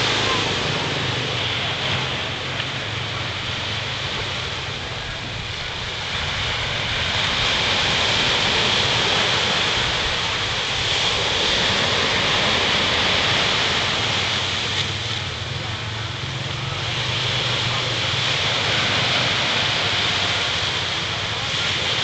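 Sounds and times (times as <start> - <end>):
ocean surf rushing: 0.0 - 22.0.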